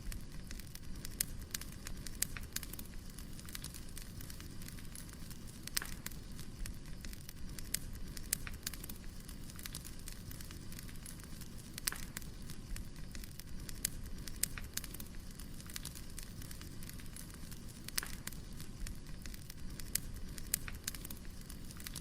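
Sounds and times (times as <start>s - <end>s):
firewood crackling and popping: 0.0s - 22.0s.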